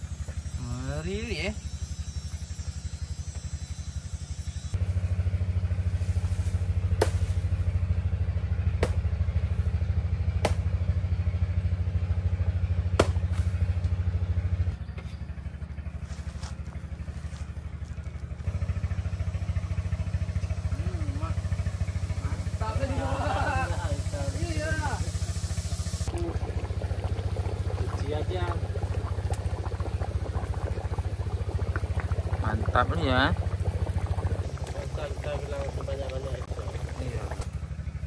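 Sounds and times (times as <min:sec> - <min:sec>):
small engine running: 0:00.0 - 0:38.0.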